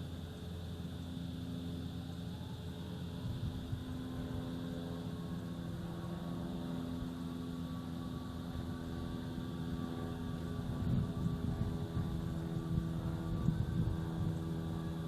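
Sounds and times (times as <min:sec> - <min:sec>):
motor drone: 0:00.0 - 0:15.0.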